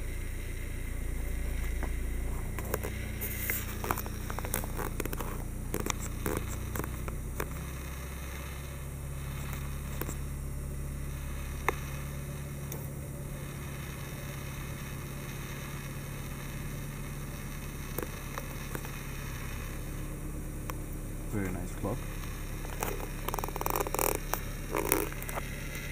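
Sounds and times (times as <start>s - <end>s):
car cabin hum: 0.0s - 25.9s.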